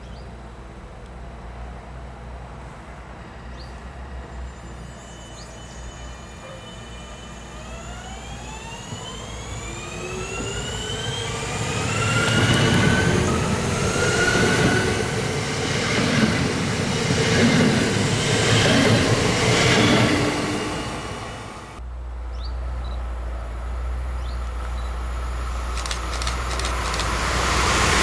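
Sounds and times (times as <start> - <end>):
train wheels rumbling on rails: 0.7 - 21.8, 22.6 - 28.0
electric train drive whine: 2.9 - 21.9, 24.5 - 28.0.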